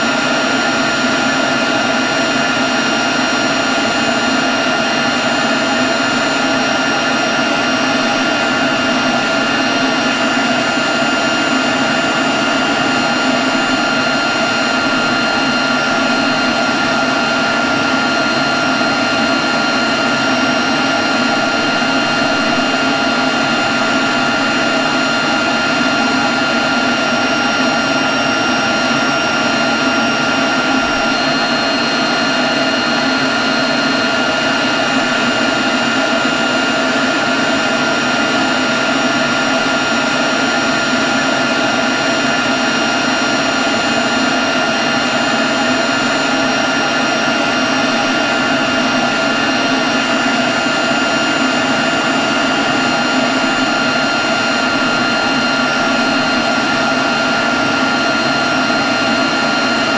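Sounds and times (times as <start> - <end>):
leaf blower running: 0.0 - 59.9.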